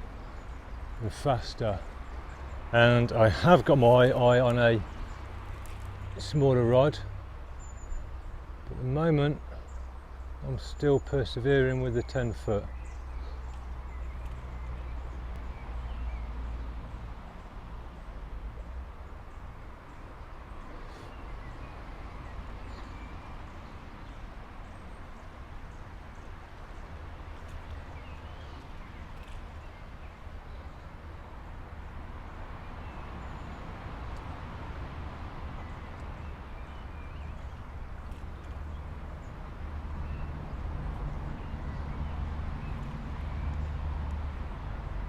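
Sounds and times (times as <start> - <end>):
small birds chirping: 0.0 - 44.3.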